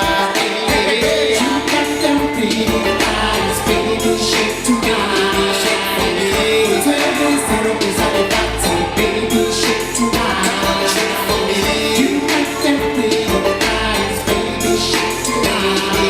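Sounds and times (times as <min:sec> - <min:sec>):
live band music: 0:00.0 - 0:16.0
percussion hits: 0:00.0 - 0:16.0
person singing: 0:00.0 - 0:16.0.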